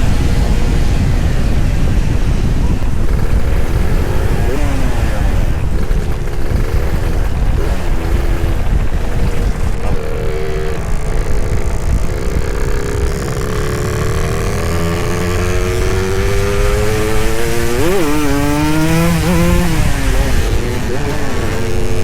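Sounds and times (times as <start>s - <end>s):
two-stroke motorcycle engine accelerating: 0.0s - 22.0s.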